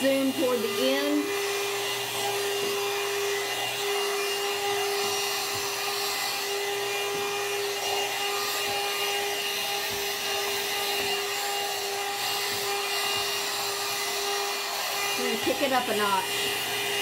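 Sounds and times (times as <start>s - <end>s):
hair dryer humming with air rush: 0.0s - 17.0s.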